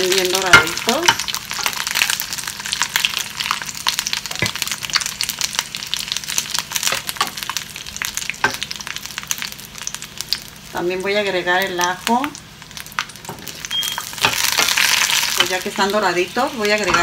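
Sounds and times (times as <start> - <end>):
chiles sizzling in hot oil: 0.0 - 17.0.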